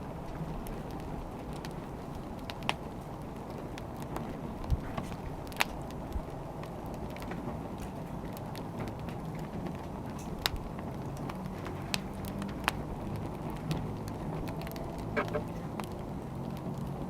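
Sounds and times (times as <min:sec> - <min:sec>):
wood fire burning: 0:00.0 - 0:17.0.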